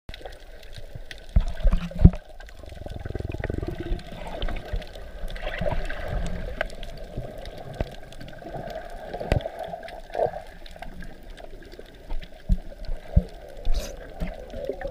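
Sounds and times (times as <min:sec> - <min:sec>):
faint clicks: 0:00.1 - 0:14.9
muffled underwater water movement: 0:00.1 - 0:14.9
underwater bubbling: 0:00.1 - 0:14.9.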